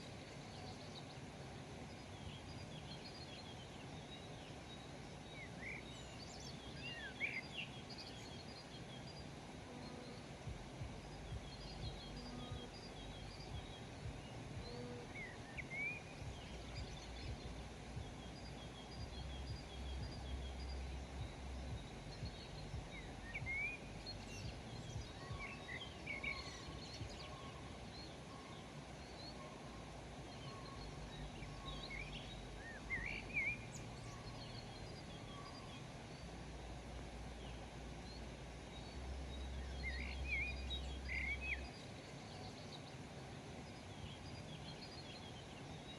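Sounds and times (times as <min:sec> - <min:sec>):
low background noise: 0:00.0 - 0:45.9
small birds chirping: 0:00.0 - 0:45.9.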